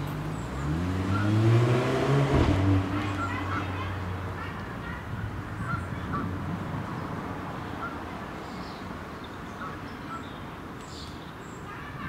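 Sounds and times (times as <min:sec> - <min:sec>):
distant bird calls: 0:00.0 - 0:02.0, 0:02.7 - 0:12.0.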